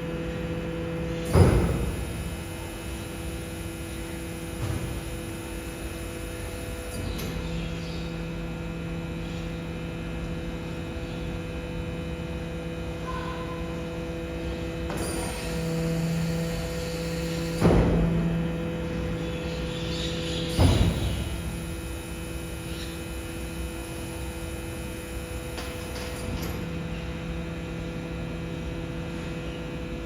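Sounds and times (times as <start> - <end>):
garbage truck compactor humming: 0.0 - 30.0.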